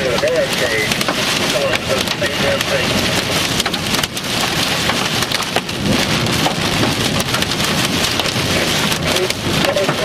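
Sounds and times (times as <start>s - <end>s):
heavy rain pelting a car: 0.0s - 10.0s.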